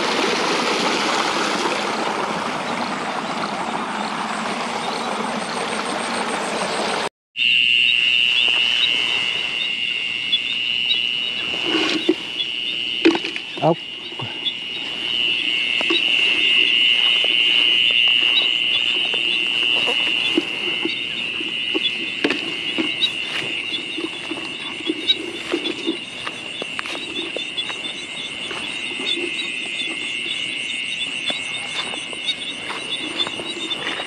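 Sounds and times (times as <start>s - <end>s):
frogs croaking: 0.0s - 34.0s
insects trilling: 3.4s - 34.0s.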